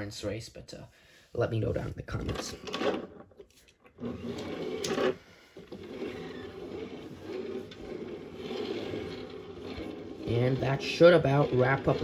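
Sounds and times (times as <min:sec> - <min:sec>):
toy cars rustling and shuffling: 0:02.1 - 0:12.0.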